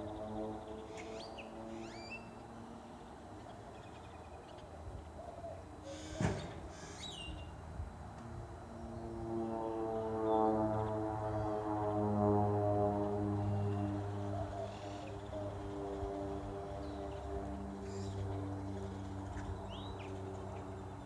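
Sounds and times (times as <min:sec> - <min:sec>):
low drone from sky: 0:00.0 - 0:05.9, 0:07.3 - 0:21.0.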